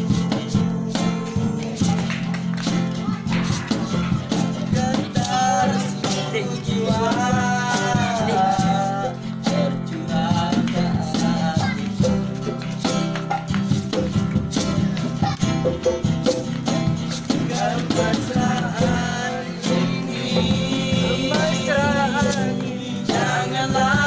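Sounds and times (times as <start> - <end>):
person singing: 0.0 - 12.6, 17.1 - 24.0
acoustic guitar strumming: 0.0 - 24.0
cajon and shaker beats: 0.0 - 24.0.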